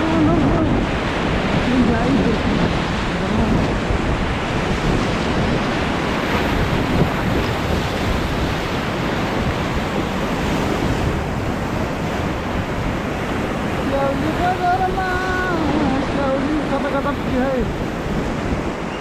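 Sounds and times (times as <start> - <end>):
fast river rushing: 0.0 - 19.0
wind buffeting microphone: 0.0 - 19.0.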